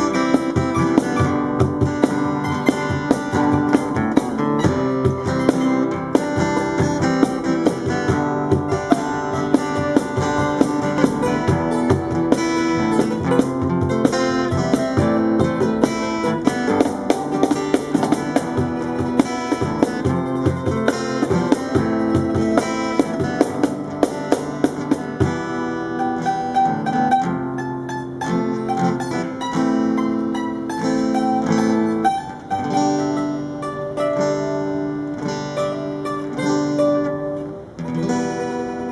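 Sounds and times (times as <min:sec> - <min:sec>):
percussion beating: 0:00.0 - 0:38.9
strummed acoustic guitar: 0:00.0 - 0:38.9.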